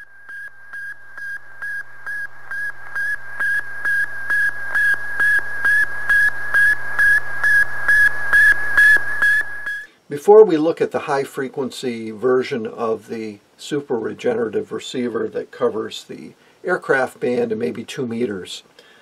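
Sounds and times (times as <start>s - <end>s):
radio hiss: 0.0s - 19.0s.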